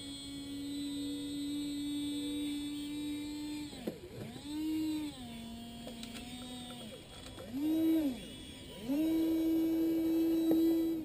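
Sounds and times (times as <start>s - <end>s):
electric actuator whine: 0.0s - 11.0s.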